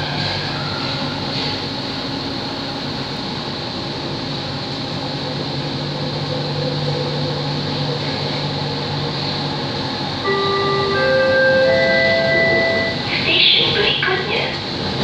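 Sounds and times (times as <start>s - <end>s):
train rail and motor noise: 0.0s - 15.0s.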